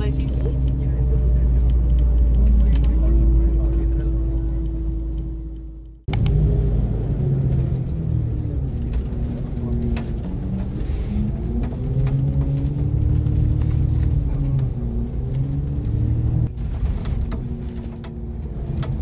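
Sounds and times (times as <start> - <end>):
bus engine rumble with whine: 0.0 - 19.0.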